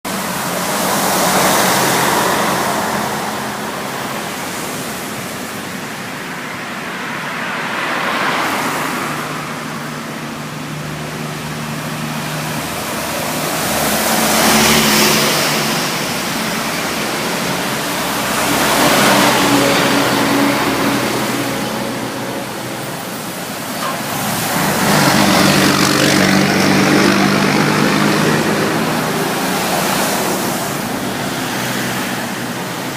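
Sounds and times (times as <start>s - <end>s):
vehicles passing: 0.0s - 32.9s.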